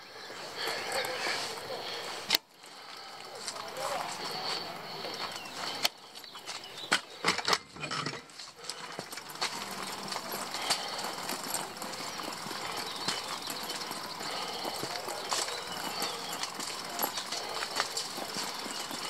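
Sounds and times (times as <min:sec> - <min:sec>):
bicycle rolling on pavement: 0:00.0 - 0:19.0.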